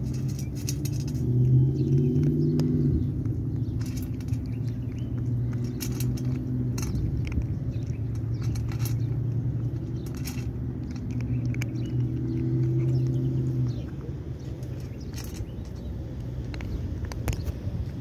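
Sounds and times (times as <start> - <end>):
cat crunching kibble in metal bowl: 0.0 - 18.0.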